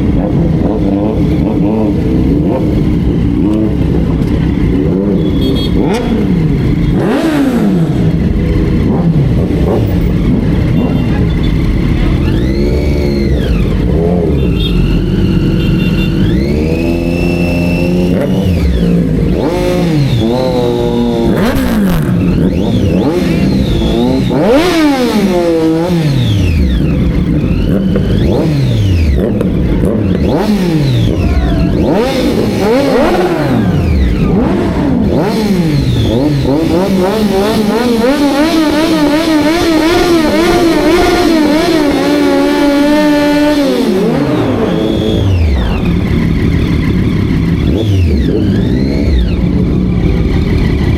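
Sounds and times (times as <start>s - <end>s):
motorbike engines revving: 0.0s - 50.9s.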